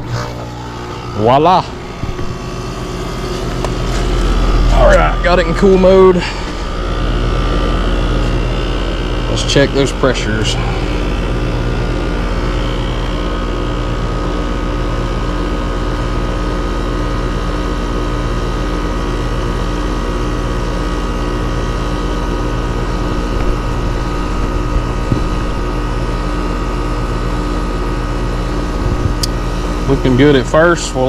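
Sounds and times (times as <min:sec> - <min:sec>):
compressor humming: 0:00.0 - 0:31.0
condenser fan drone: 0:00.0 - 0:31.0.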